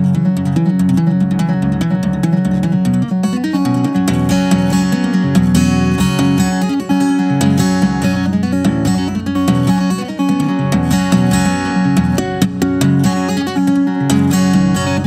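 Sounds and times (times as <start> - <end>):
tapped acoustic guitar: 0.0 - 15.0.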